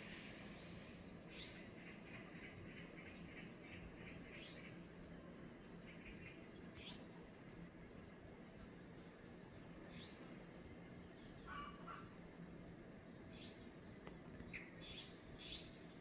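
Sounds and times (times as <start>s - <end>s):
birds chirping and trilling: 0.0s - 12.3s, 12.9s - 16.0s
faint background noise: 0.0s - 16.0s.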